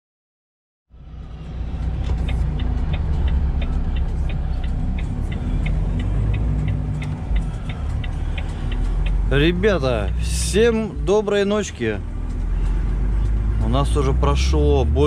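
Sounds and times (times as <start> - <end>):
truck engine rumble: 0.9 - 15.0
sharp regular ticking: 1.7 - 13.9.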